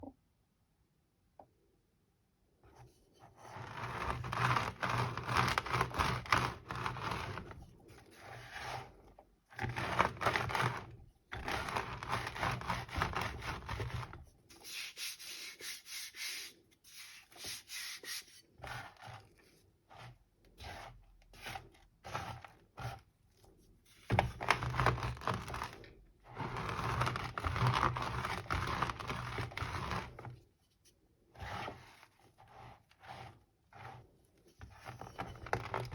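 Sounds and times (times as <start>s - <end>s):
rolling pin crushing chalk: 3.3s - 30.5s, 31.2s - 35.9s.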